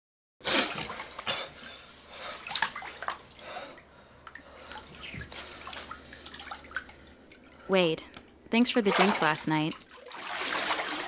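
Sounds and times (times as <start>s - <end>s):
water splashing in bathtub: 0.5s - 7.8s, 8.6s - 11.0s.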